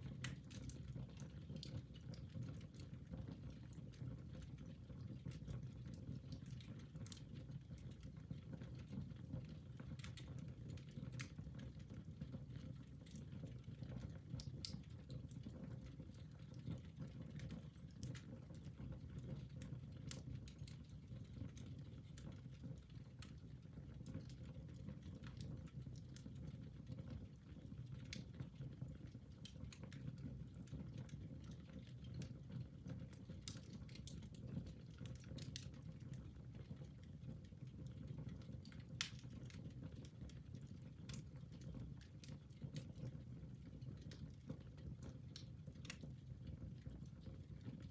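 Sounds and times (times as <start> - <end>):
fireplace fire rumbling and crackling: 0.0 - 47.9.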